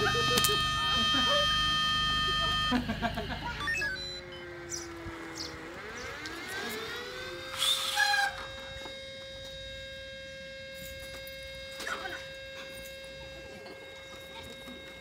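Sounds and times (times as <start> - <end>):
alarm siren wailing: 0.0 - 15.0.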